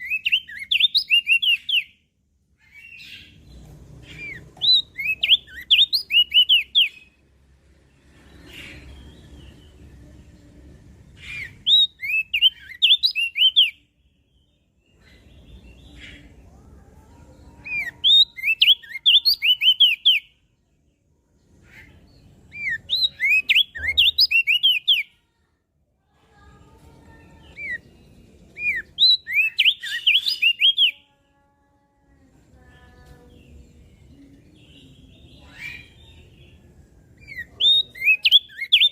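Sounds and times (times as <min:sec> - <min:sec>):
bird singing rapid high chirps: 0:00.0 - 0:10.0, 0:11.0 - 0:16.4, 0:17.6 - 0:20.4, 0:21.6 - 0:25.1, 0:27.2 - 0:31.0, 0:33.3 - 0:38.9.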